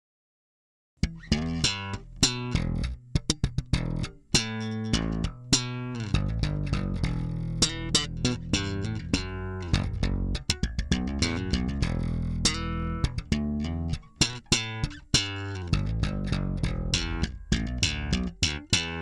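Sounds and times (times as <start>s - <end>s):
plucked string notes: 1.0s - 19.0s
sustained bass line: 1.0s - 19.0s.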